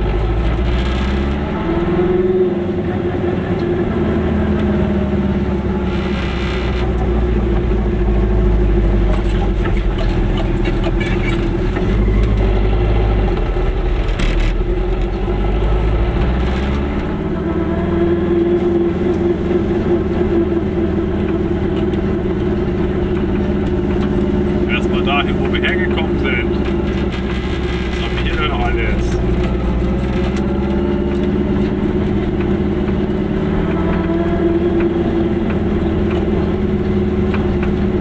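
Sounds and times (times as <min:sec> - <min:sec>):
small car engine running: 0:00.0 - 0:38.0.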